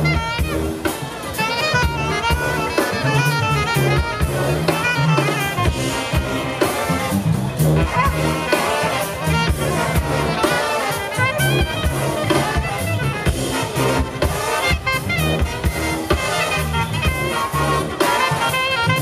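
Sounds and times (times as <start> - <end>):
drum kit beat: 0.0 - 19.0
electric bass line: 0.0 - 19.0
saxophones and brass melody: 0.0 - 19.0.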